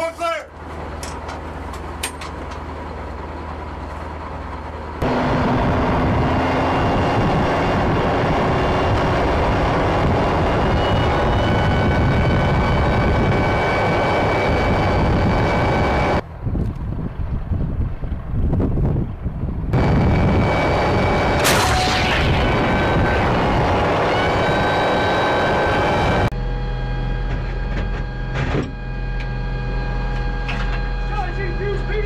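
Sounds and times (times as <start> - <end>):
low hum inside vehicle: 0.0 - 32.0
vehicle engine running with whine: 0.5 - 32.0.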